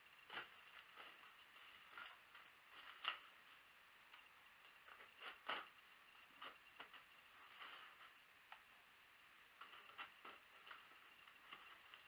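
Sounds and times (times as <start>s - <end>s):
wrapping paper rustling: 0.1s - 8.3s, 9.6s - 12.0s.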